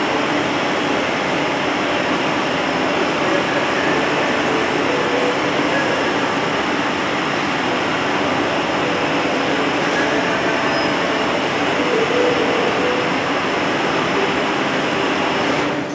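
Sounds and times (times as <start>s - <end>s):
ventilation fans running: 0.0s - 15.9s.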